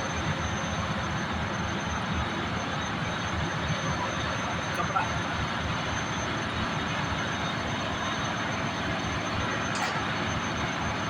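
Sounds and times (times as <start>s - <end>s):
engine room machinery rumble: 0.0s - 11.0s.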